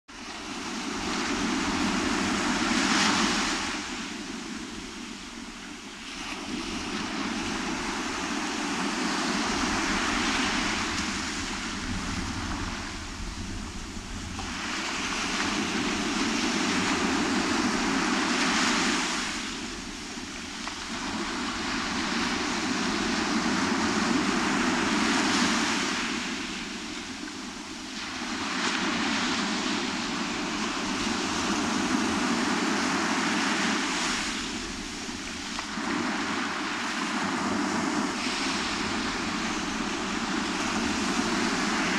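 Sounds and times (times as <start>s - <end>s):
sea surf breaking on a beach: 0.1s - 41.9s.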